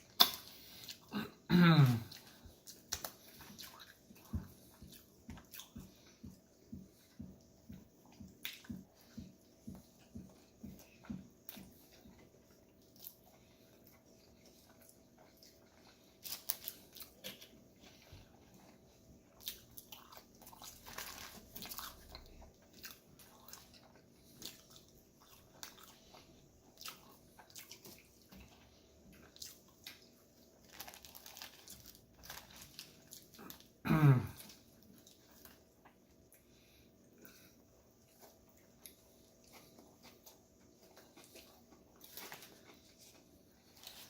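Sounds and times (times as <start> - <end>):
chewing and biting: 2.1 - 33.7, 37.2 - 44.0.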